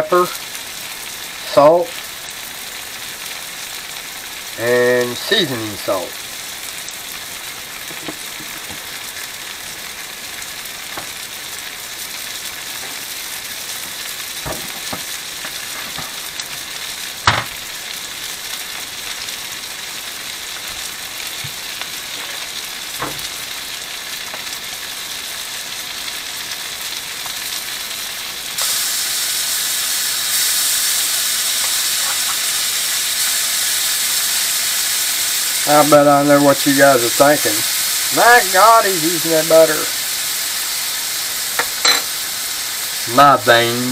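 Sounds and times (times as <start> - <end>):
mushrooms sizzling in butter: 0.0 - 43.9.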